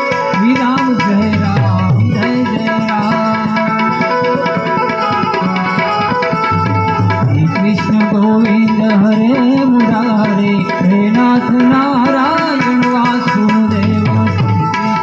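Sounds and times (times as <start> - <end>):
harmonium melody: 0.0 - 15.0
tabla rhythm: 0.0 - 15.0.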